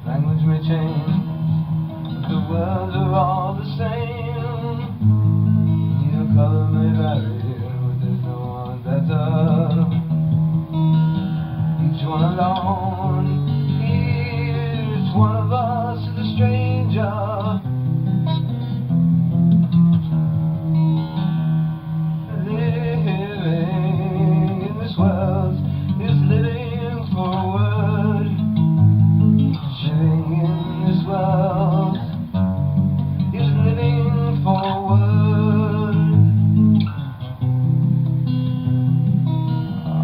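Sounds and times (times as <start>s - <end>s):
guitar and bass: 0.0s - 40.0s.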